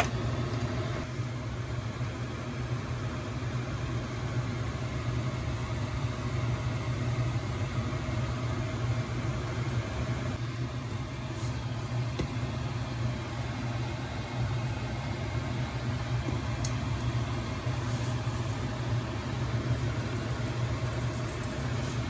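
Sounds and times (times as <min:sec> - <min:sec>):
pot of beans boiling: 0:00.0 - 0:22.0.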